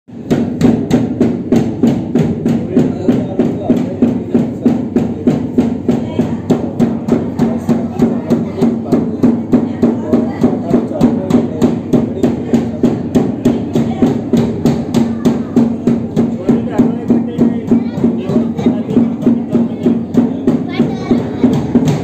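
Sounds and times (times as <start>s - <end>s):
barrel drum beaten with stick: 0.1s - 22.0s.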